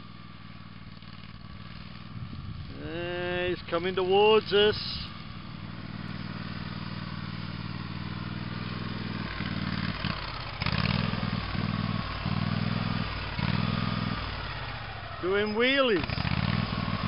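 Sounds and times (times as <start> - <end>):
small tractor engine revving: 0.0 - 17.0.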